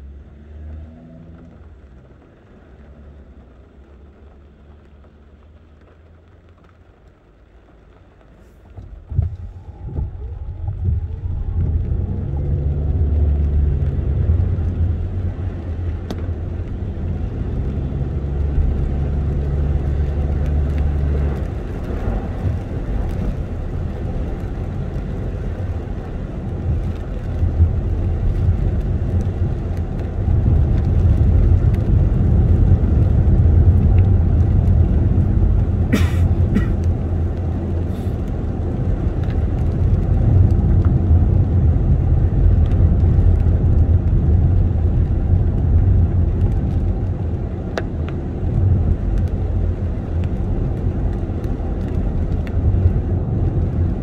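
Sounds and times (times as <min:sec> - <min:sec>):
car road noise on wet road: 0:00.0 - 0:54.0.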